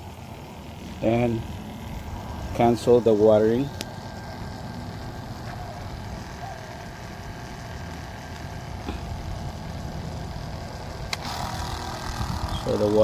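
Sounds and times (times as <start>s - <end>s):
water pump humming: 0.0s - 13.0s.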